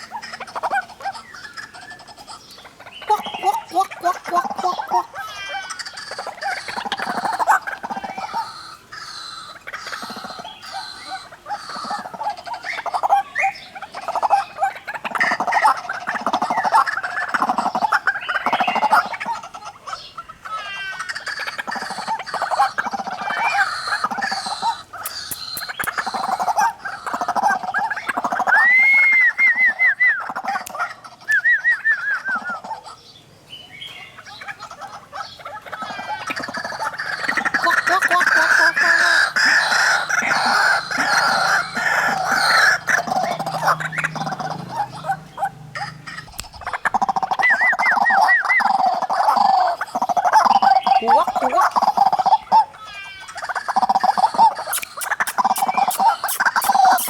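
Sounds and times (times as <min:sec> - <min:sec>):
bird chattering croak: 0:00.0 - 0:28.9, 0:33.8 - 0:57.0
waterhens calling: 0:00.0 - 0:57.0.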